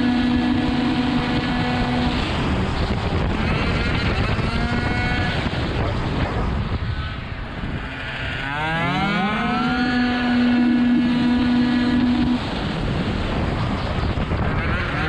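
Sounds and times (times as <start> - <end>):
two-stroke scooter engine revving: 0.0 - 6.0, 6.6 - 15.0.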